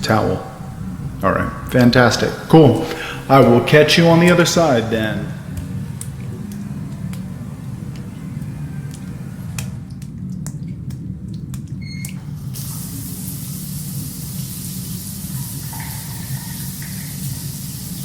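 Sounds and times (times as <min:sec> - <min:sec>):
shower spray hissing: 0:00.0 - 0:09.7, 0:12.2 - 0:18.0
low room hum: 0:00.0 - 0:18.0.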